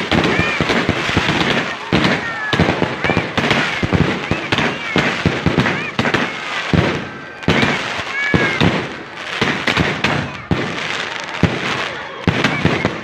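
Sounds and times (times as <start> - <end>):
fireworks bangs and crackles: 0.0 - 13.0
fireworks high-pitched squeals: 0.0 - 13.0.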